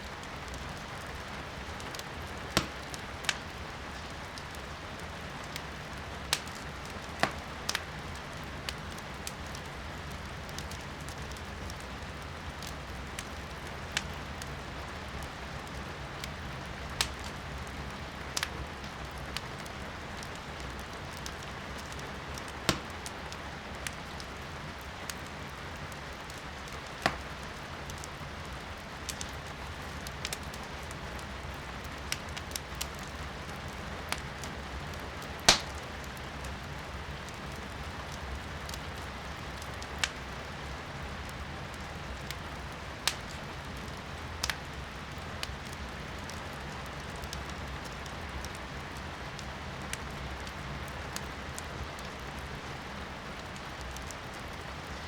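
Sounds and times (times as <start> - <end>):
firewood crackling in fireplace: 0.0 - 55.0
rain heard from indoors: 0.0 - 55.0.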